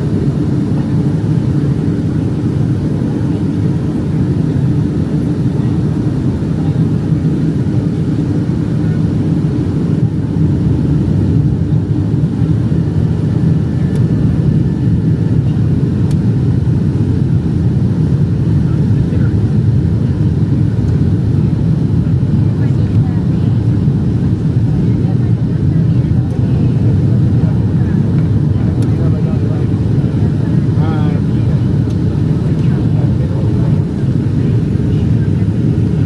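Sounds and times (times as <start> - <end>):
airflow noise in plane cabin: 0.0 - 36.0
jet engines droning: 0.0 - 36.0.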